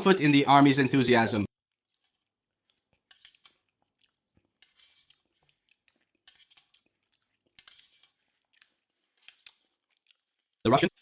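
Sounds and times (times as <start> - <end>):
food being chewed: 1.7 - 11.0.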